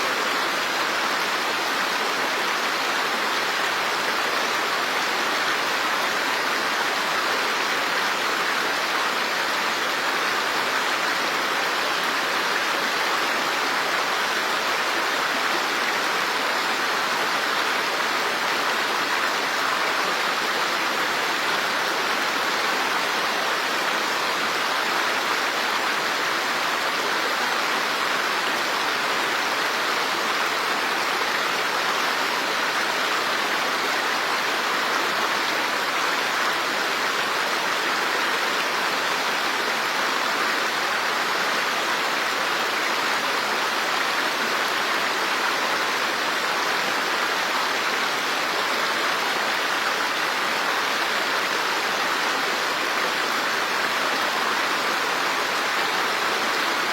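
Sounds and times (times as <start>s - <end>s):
running water rushing: 0.0s - 56.9s.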